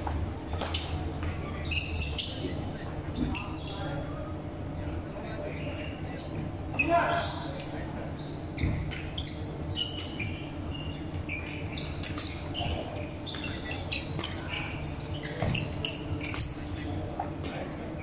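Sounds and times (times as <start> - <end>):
sneaker squeaks on wooden floor: 0.0 - 4.2, 5.6 - 17.3.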